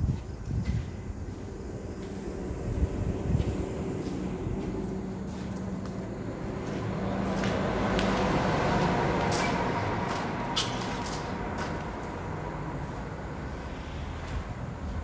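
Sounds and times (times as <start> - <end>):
steady low hum: 0.0 - 15.0
vehicle passing: 1.2 - 15.0.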